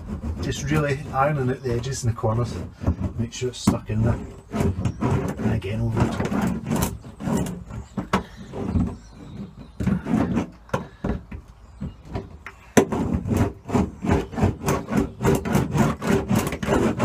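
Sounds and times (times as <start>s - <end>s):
hand roller rubbing over sheet: 0.0s - 11.2s, 12.8s - 17.0s.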